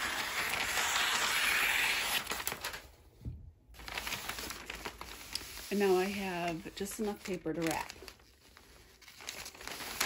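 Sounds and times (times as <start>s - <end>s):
paper rustling: 0.0s - 3.0s, 3.7s - 10.0s.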